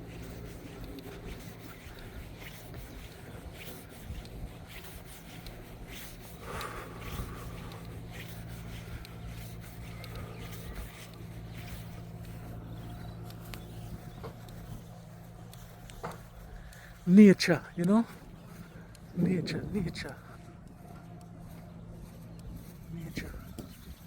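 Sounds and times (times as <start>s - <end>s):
footsteps brushing through grass: 0.0s - 24.0s
steady low hum: 0.0s - 24.0s.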